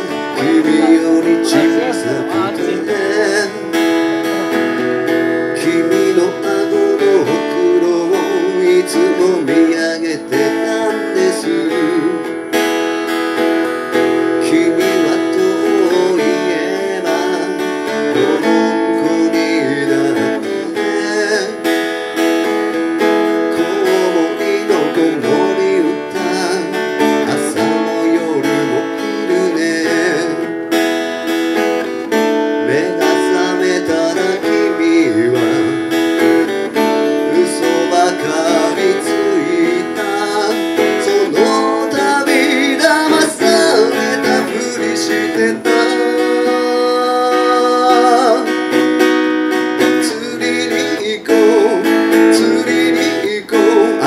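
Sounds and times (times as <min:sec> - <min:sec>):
acoustic guitar strumming through speakers: 0:00.0 - 0:54.0.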